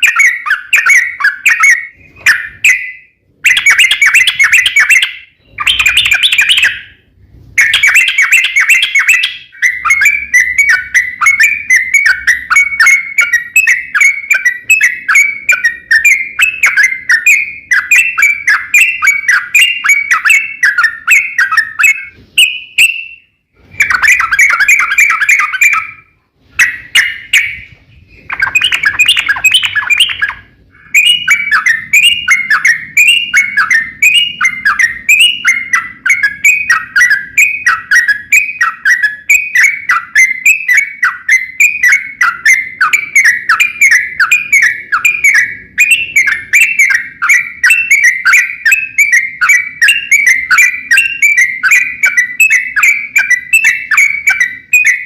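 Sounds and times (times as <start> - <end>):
bird singing: 0.0 - 55.0.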